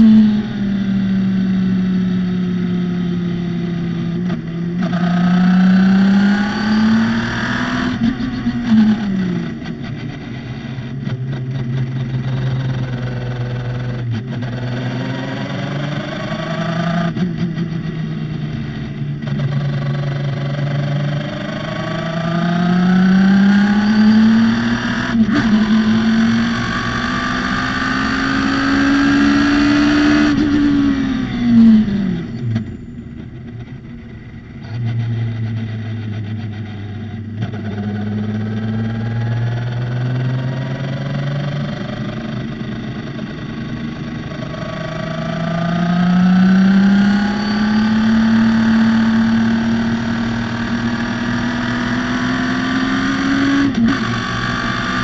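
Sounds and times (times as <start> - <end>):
race car engine revving: 3.3 - 32.7, 34.6 - 55.0.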